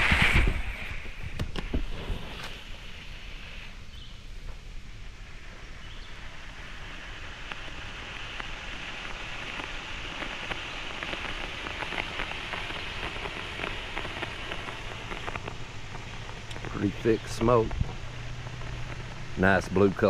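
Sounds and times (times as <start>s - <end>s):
smoke grenade hissing and crackling: 0.0s - 20.0s.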